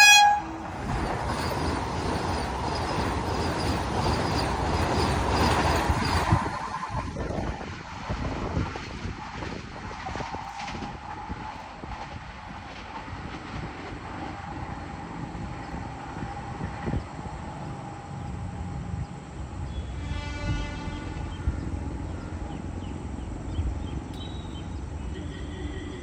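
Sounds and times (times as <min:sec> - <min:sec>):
train running rumble: 0:00.0 - 0:26.0.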